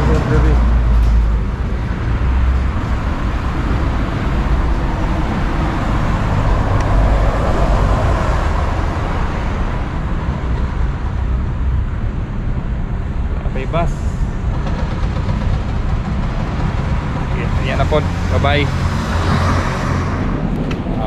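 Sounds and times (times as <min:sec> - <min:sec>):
vehicle passing: 0:00.0 - 0:11.8, 0:12.4 - 0:21.0
road noise rumble: 0:00.0 - 0:21.0.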